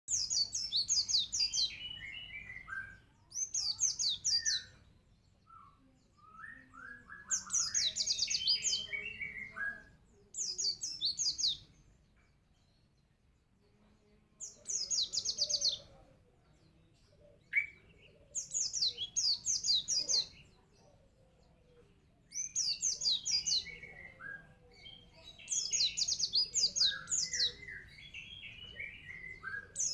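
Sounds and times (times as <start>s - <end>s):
white-eye bird song: 0.1s - 29.9s.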